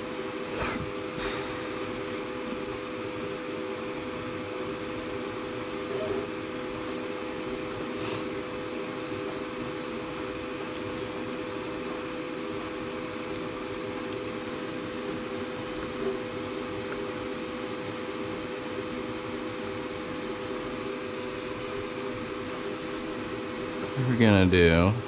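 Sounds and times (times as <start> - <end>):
fan hum: 0.0 - 25.0.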